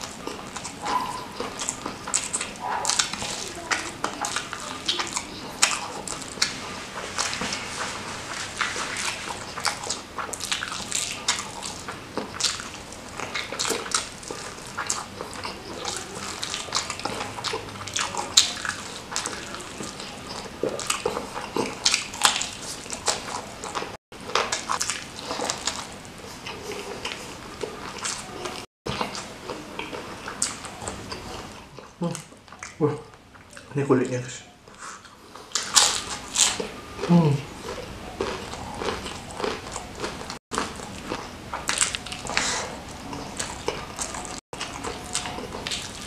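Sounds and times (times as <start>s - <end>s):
wet chewing and lip-smacking: 0.0s - 33.8s, 34.7s - 46.0s.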